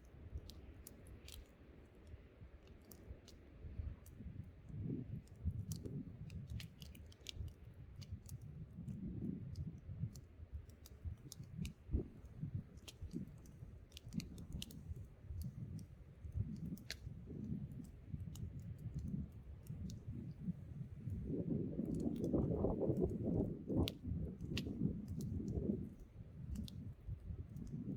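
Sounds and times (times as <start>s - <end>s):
wind on microphone: 3.1s - 27.9s
campfire crackling and popping: 4.1s - 27.9s.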